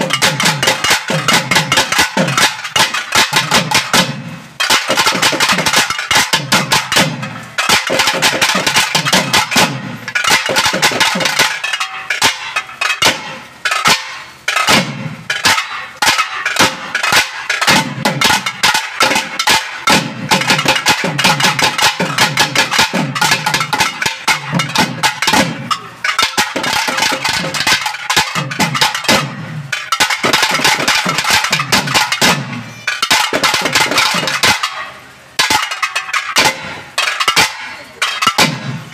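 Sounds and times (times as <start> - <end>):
drums beaten fast: 0.0 - 38.9.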